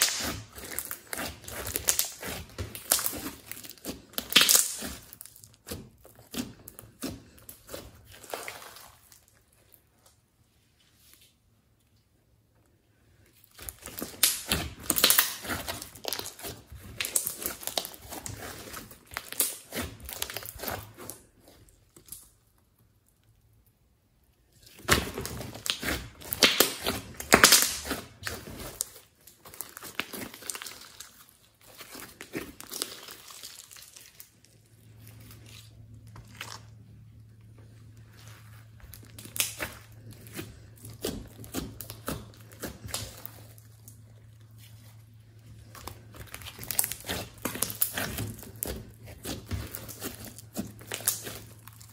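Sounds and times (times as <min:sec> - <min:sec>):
hands squishing slime: 0:00.0 - 0:11.3, 0:12.9 - 0:23.6, 0:24.2 - 0:51.9.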